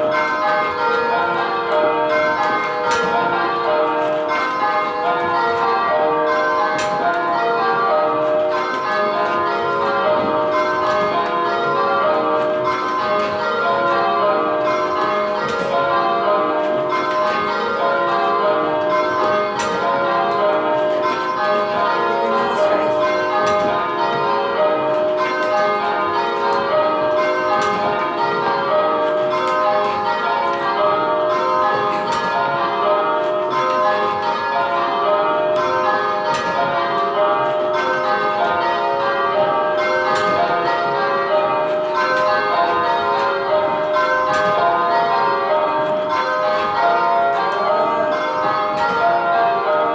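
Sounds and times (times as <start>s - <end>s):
church bells change ringing: 0.0s - 49.9s.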